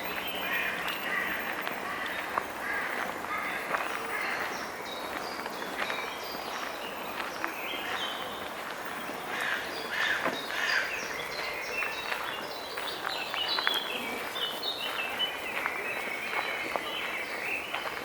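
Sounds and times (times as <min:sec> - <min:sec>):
songbirds chirping: 0:00.0 - 0:18.0
steady background noise: 0:00.0 - 0:18.0.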